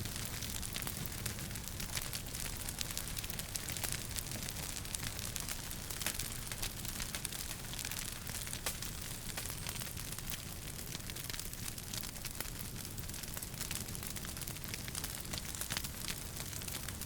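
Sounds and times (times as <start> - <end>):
sharp pops of fire: 0.0 - 17.0
wood fire crackling and hissing: 0.0 - 17.0.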